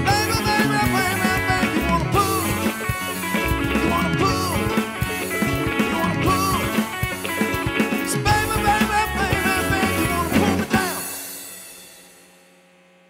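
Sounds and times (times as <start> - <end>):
rock band playing: 0.0 - 12.2.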